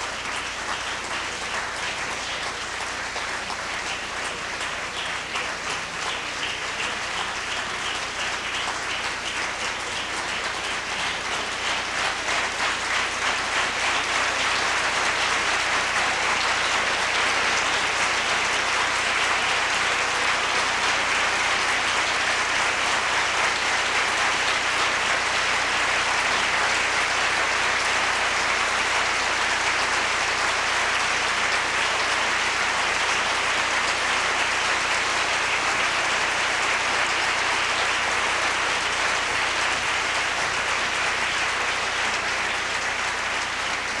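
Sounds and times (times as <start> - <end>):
audience applauding: 0.0 - 44.0.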